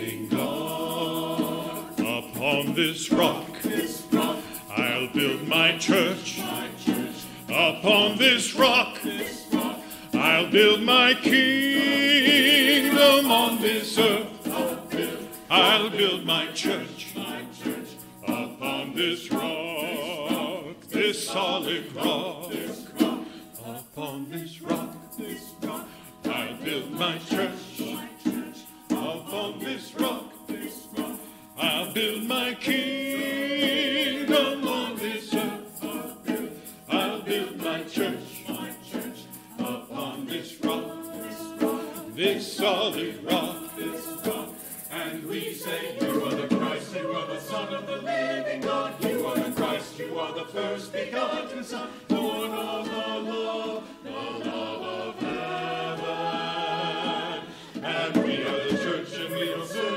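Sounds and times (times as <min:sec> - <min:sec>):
choir singing: 0:00.0 - 0:59.9
hand percussion shaking: 0:00.0 - 0:59.9.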